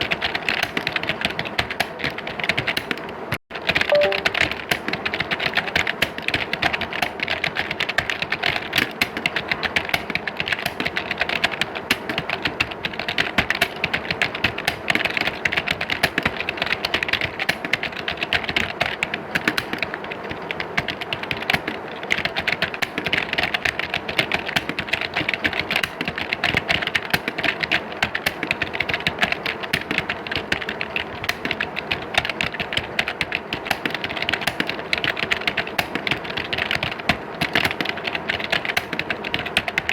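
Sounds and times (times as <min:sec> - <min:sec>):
keyboards typing: 0:00.0 - 0:39.9.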